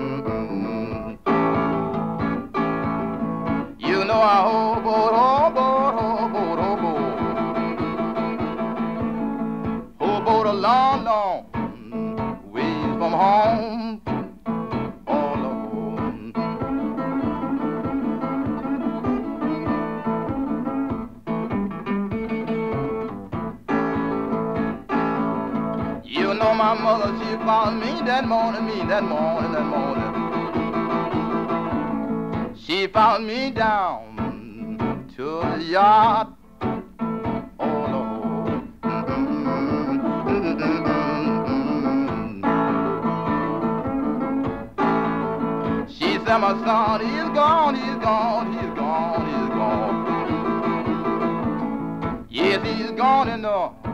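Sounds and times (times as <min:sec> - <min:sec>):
guitar playing: 0:00.0 - 0:53.9.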